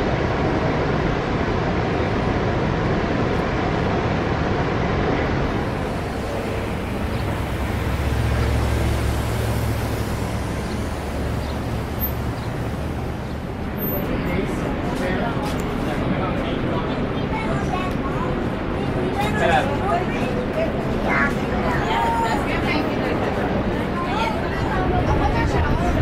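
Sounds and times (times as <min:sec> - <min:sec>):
low engine rumble: 0:00.0 - 0:26.0
traffic noise: 0:00.0 - 0:26.0
waterfall roaring: 0:00.0 - 0:26.0.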